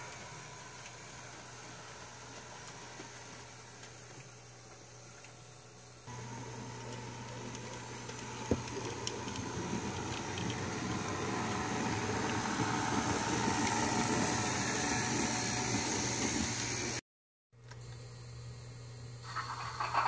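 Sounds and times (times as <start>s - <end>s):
model train hum and wheel noise: 0.0s - 17.0s, 19.2s - 20.0s.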